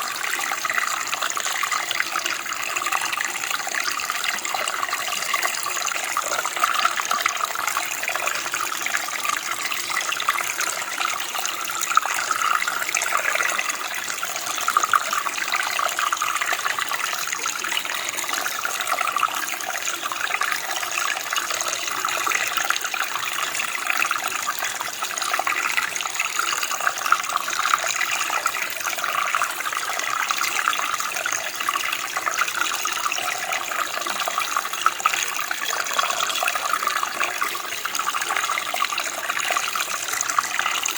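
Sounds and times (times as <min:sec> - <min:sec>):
stream water bubbling: 0:00.0 - 0:40.9.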